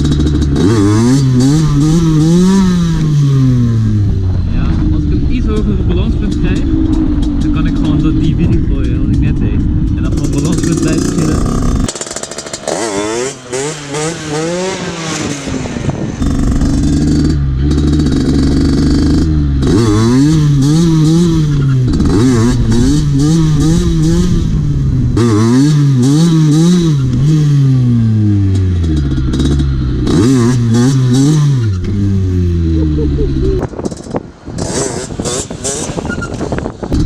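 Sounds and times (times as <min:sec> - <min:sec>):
moped engine revving: 0:00.0 - 0:37.0.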